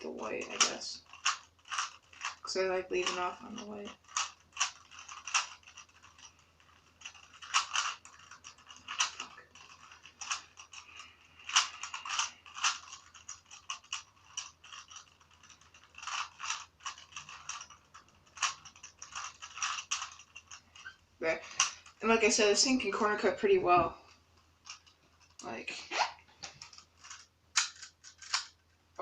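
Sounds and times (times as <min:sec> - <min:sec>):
puzzle cube clicking: 0:00.2 - 0:21.9, 0:26.6 - 0:28.6.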